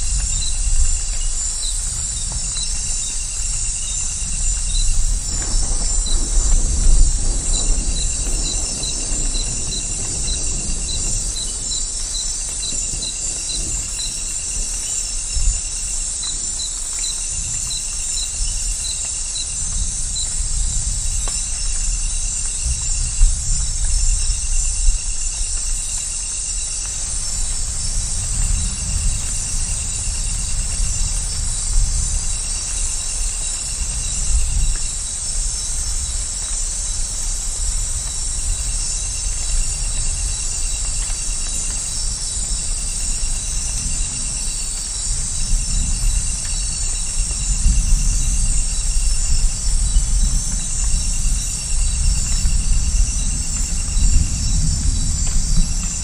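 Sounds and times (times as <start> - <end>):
distant thunder rumble: 0.0 - 56.0
insects chorus: 0.0 - 56.0.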